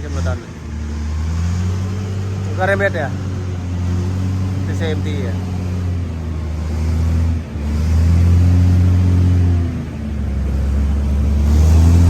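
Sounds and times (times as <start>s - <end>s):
large diesel engine running: 0.0s - 12.0s.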